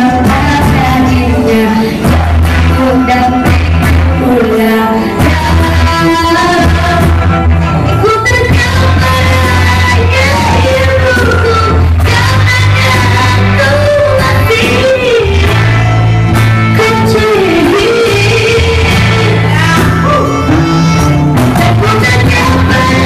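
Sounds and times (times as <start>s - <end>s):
acoustic guitar: 0.0s - 23.0s
keyboard: 0.0s - 23.0s
woman singing: 0.0s - 23.0s.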